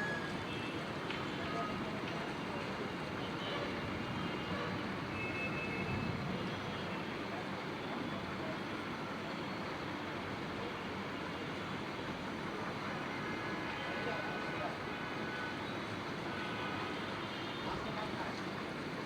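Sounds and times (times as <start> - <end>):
distant city traffic hum: 0.0 - 19.0.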